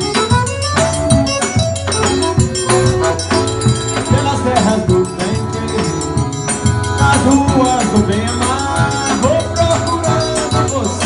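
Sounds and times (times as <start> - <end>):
accordion melody: 0.0 - 11.0
bass drum rhythm: 0.0 - 11.0.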